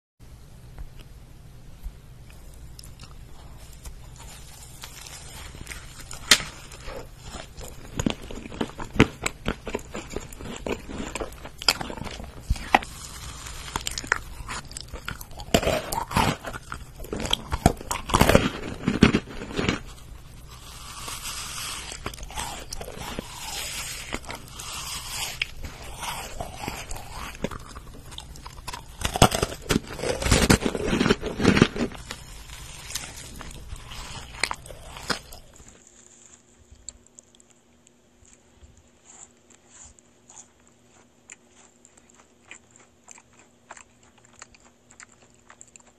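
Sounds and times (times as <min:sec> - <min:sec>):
chewing and wet mouth sounds: 0:02.2 - 0:45.9
macaron shells crunching: 0:02.8 - 0:37.6, 0:39.1 - 0:45.9.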